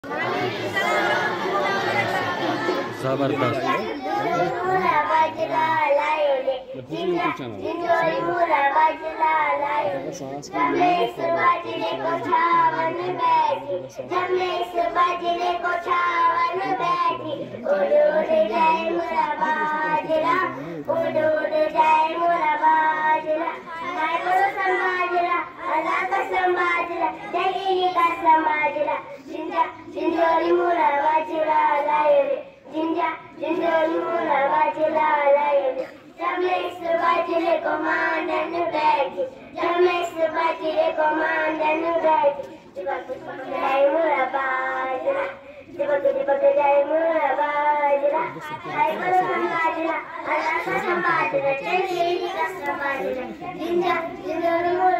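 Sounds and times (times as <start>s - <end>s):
girls singing together: 0.0s - 54.9s.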